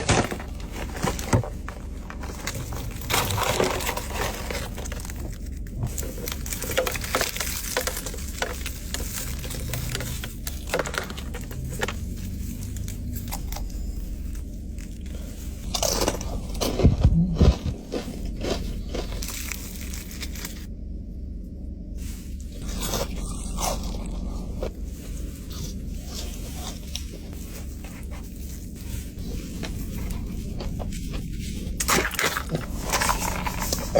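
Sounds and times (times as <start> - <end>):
steady low hum: 0.0 - 33.9
chewing crispy fried chicken: 2.2 - 20.7, 22.6 - 33.9.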